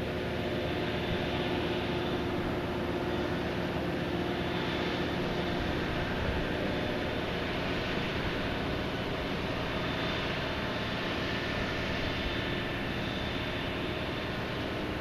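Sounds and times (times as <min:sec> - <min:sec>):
heavy engine machinery drone: 0:00.0 - 0:15.0.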